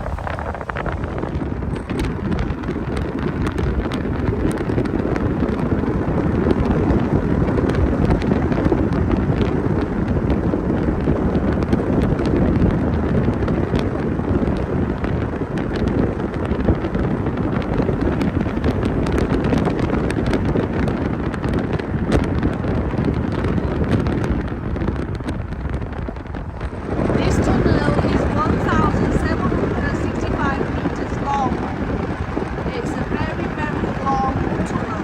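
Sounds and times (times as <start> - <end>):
steady low rumble: 0.0 - 35.0
wind buffeting microphone: 0.0 - 35.0.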